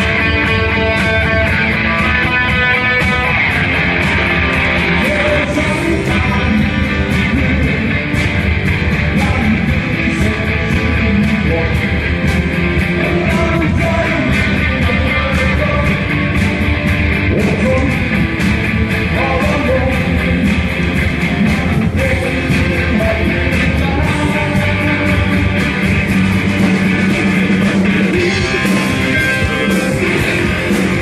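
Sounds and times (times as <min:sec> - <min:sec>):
rock band playing loud music: 0:00.0 - 0:31.0.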